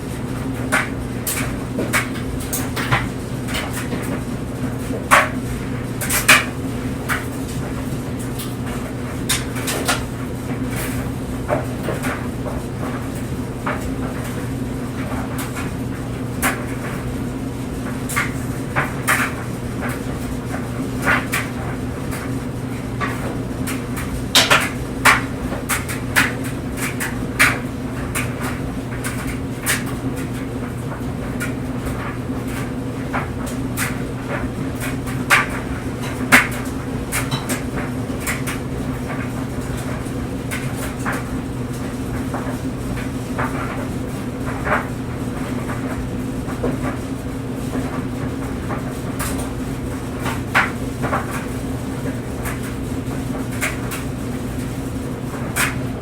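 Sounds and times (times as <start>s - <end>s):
clothes dryer motor hum: 0.0s - 56.0s.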